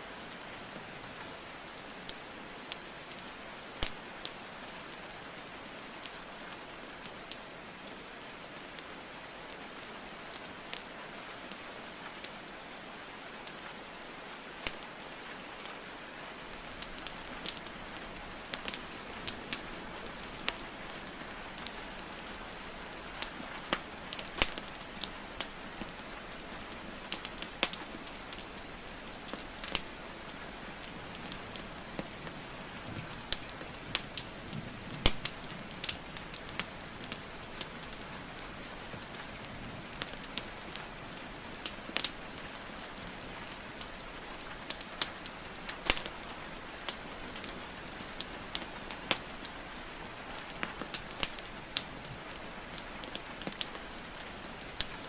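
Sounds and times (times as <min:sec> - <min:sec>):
rainfall hiss: 0:00.0 - 0:55.0
wood fire crackling and popping: 0:01.8 - 0:08.1, 0:09.6 - 0:55.0.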